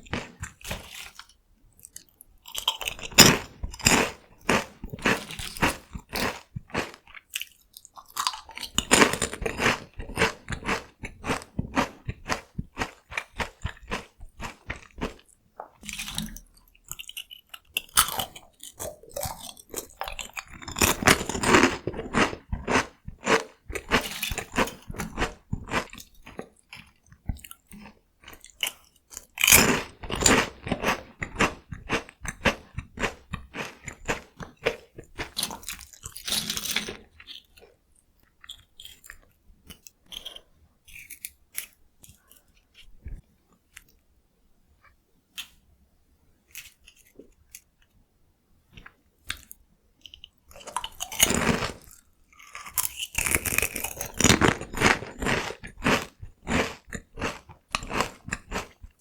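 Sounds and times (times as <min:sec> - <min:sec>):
crunching and chewing snacks: 0:00.0 - 0:44.0, 0:46.4 - 0:47.8, 0:48.7 - 0:59.0.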